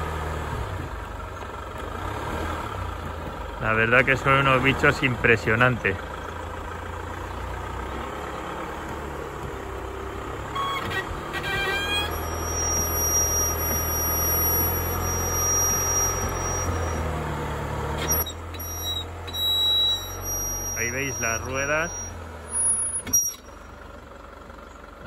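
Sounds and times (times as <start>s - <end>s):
engine low hum: 0.0s - 25.0s
chassis squeaking: 3.6s - 24.8s.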